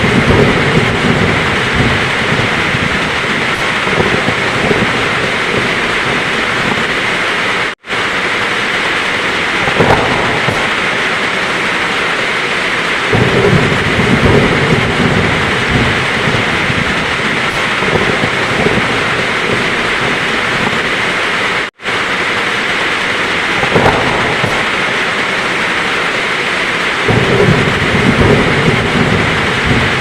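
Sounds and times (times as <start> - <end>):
heavy rain falling: 0.0 - 30.0
thunder rumbling: 0.0 - 30.0.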